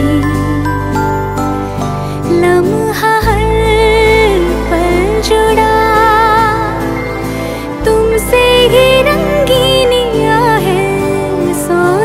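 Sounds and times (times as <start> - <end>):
slow tender song: 0.0 - 12.0.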